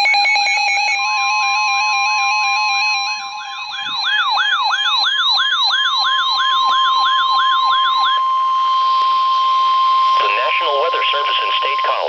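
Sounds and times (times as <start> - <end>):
steady alarm tone: 0.0 - 12.0
sweeping siren: 0.0 - 12.0
two-tone warble: 1.0 - 12.0.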